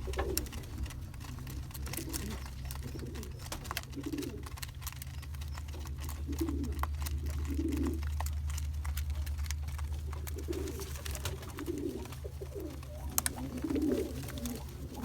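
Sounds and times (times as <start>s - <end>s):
pigeons cooing: 0.0s - 15.0s
steady low hum: 0.0s - 15.0s.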